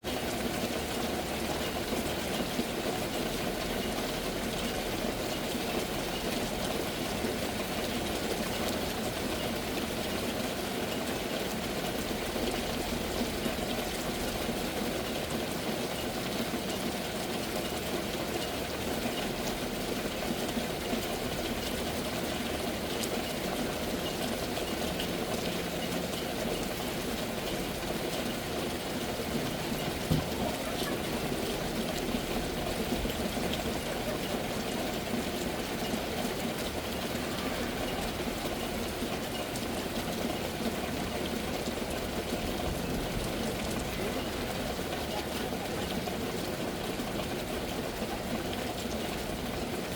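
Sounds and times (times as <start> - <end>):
rain falling steadily: 0.0 - 49.9.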